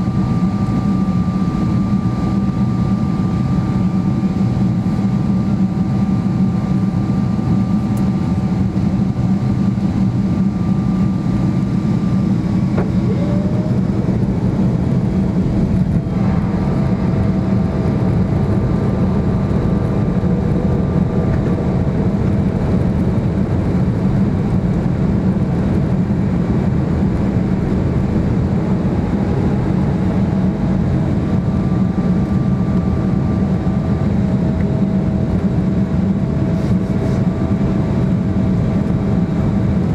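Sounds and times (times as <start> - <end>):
airplane cabin rumble: 0.0 - 39.9
faint jet engine tones: 0.0 - 39.9.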